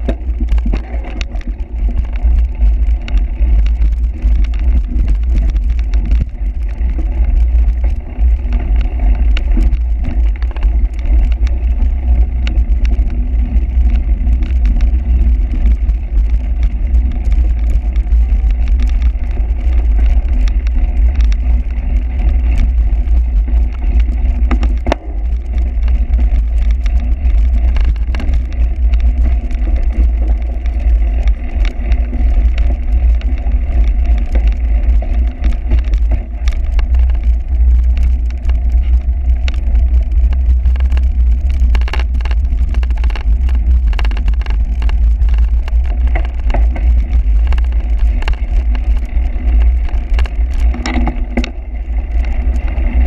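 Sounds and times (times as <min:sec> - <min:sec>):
bike rattling over rough ground: 0:00.0 - 0:53.0
wind rumble on microphone: 0:00.0 - 0:53.0.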